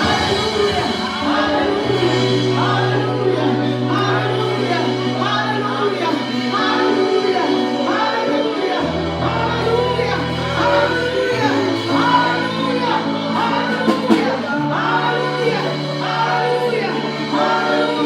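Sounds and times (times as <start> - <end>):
keyboard and bass chords: 0.0 - 18.0
voices singing: 0.0 - 18.0.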